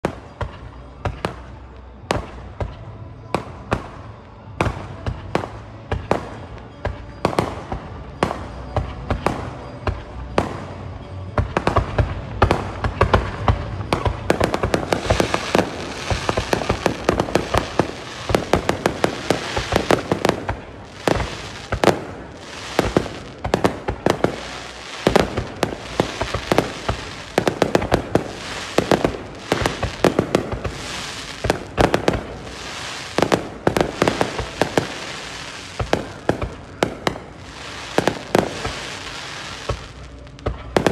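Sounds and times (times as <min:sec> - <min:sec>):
fireworks bursting bangs: 0:03.4 - 0:40.9.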